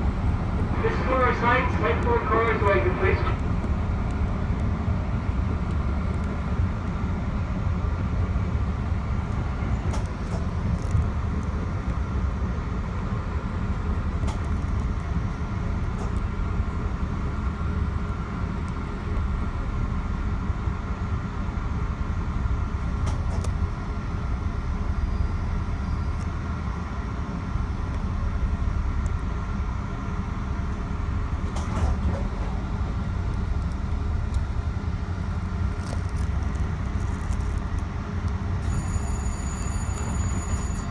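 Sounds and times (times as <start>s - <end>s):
train rumble from inside: 0.0s - 40.9s.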